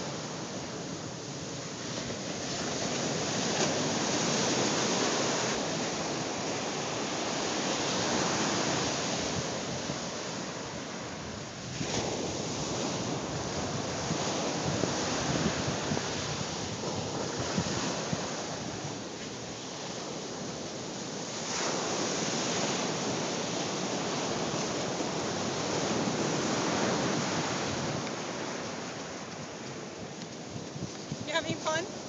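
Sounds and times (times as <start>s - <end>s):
ocean surf breaking: 0.0s - 32.0s
wind buffeting microphone: 1.2s - 32.0s.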